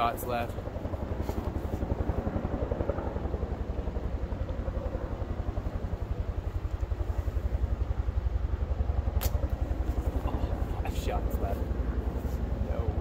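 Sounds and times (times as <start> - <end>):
helicopter rotor beating: 0.0 - 13.0.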